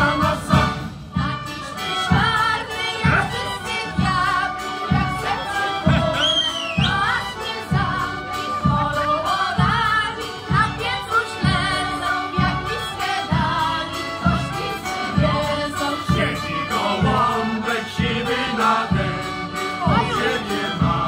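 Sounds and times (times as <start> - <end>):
folk choir singing in chorus: 0.0 - 21.0
instrumental accompaniment: 0.0 - 21.0.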